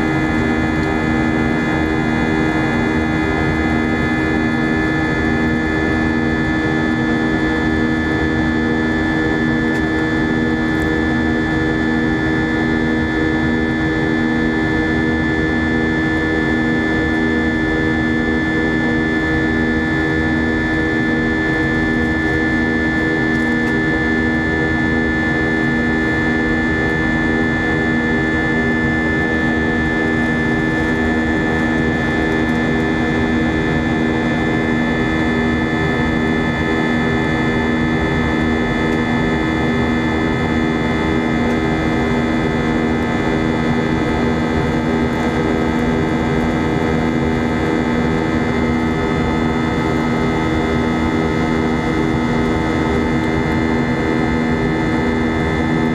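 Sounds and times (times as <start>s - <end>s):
jet engine drone in cabin: 0.0s - 55.9s.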